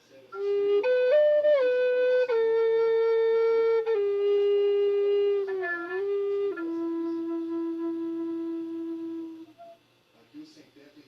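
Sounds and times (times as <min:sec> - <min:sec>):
flute playing slow melody: 0:00.3 - 0:09.8.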